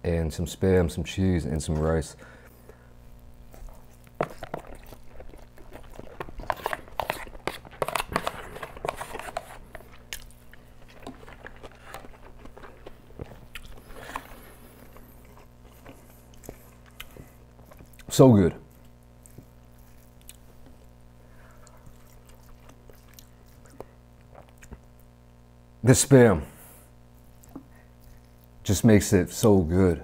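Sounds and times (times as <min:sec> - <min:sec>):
person chewing food: 0:02.5 - 0:25.2, 0:27.1 - 0:28.6.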